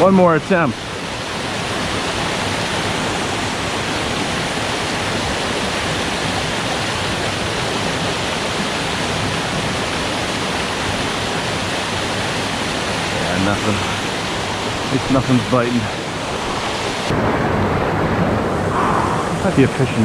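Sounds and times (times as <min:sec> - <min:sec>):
small waterfall rushing: 0:00.0 - 0:17.3, 0:18.7 - 0:20.0.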